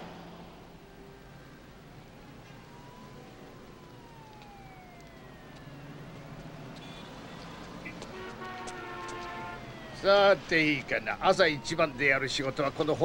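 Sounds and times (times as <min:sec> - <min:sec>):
city street traffic: 0:00.0 - 0:13.0
distant siren wailing: 0:00.4 - 0:13.0.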